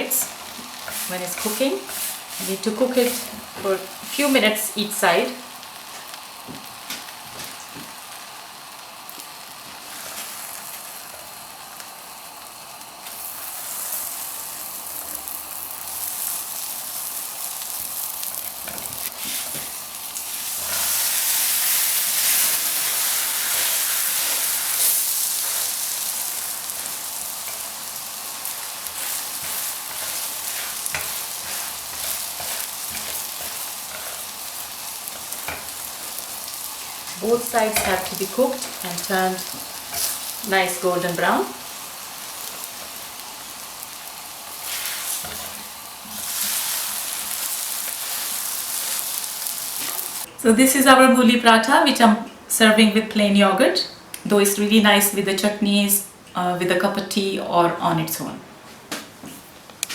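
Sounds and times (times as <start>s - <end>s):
butter sizzling: 0.0s - 50.5s.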